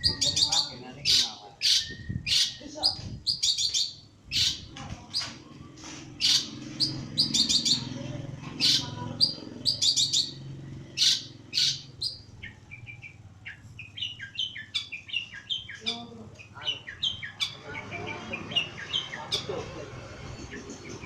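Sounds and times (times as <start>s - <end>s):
bird harsh rapid chirping: 0.0s - 21.0s.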